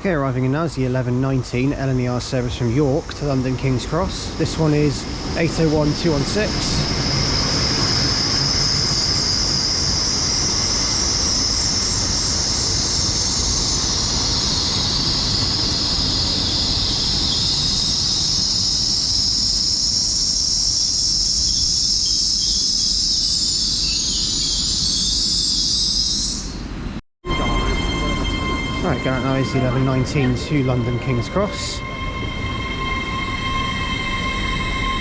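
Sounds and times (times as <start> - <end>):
train low rumble: 0.0 - 21.0, 26.6 - 35.0
train squeal: 0.0 - 35.0.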